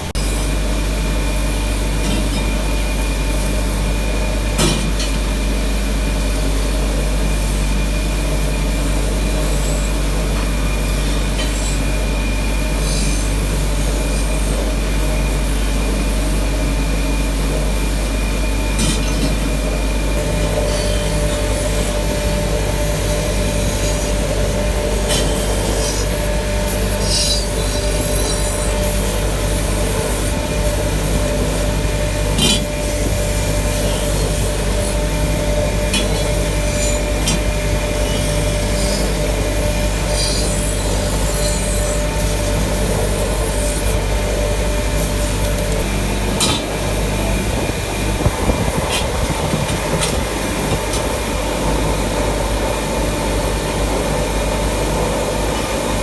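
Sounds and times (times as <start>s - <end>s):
machinery humming: 0.0s - 56.0s.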